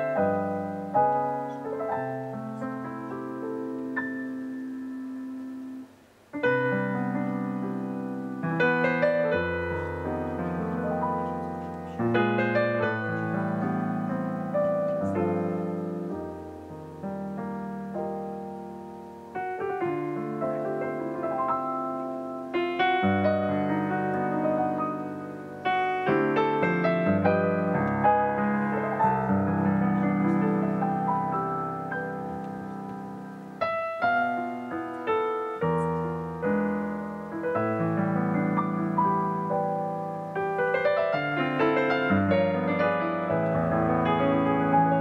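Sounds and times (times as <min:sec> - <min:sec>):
solo grand piano: 0:00.0 - 0:45.0.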